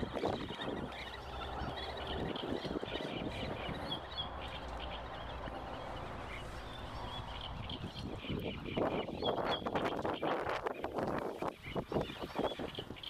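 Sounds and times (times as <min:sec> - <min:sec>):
wind blowing over microphone: 0:00.0 - 0:13.0.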